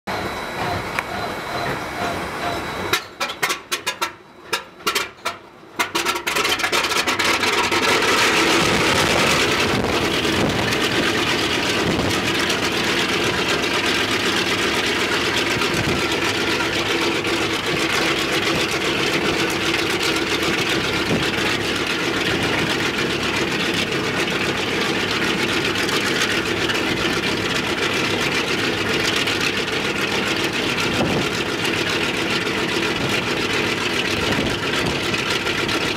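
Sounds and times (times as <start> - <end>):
radial piston engine starting and running: 6.0 - 35.9.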